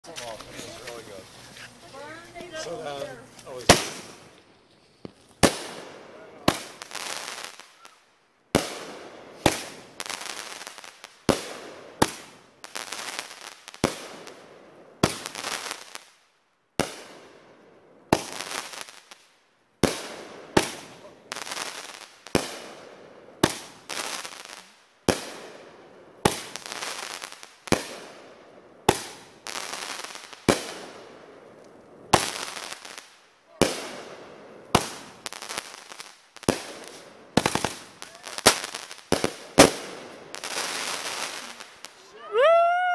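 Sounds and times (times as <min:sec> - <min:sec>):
fireworks bangs: 0:00.1 - 0:16.1, 0:19.8 - 0:42.9.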